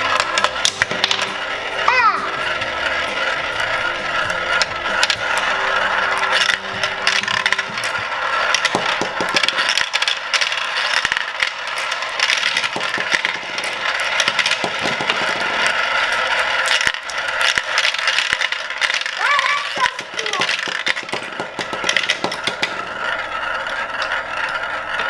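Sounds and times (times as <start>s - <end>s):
marbles rattling through plastic tubes: 0.0s - 25.0s.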